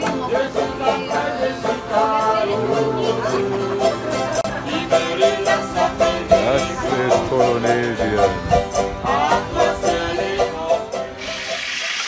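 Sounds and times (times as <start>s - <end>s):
ukuleles and guitars strumming: 0.0s - 12.0s.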